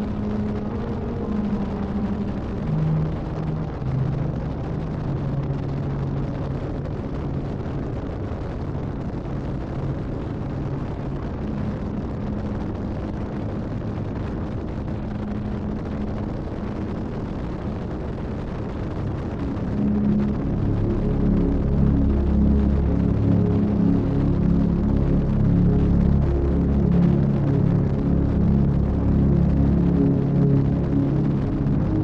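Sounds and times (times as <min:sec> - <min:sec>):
wind rush on microphone: 0:00.0 - 0:32.0.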